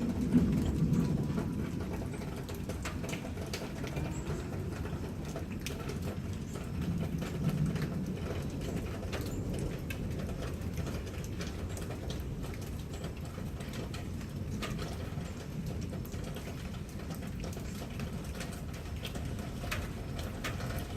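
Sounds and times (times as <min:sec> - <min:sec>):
thunder rumble: 0:00.0 - 0:17.3
raindrops dripping and pattering: 0:00.0 - 0:20.9.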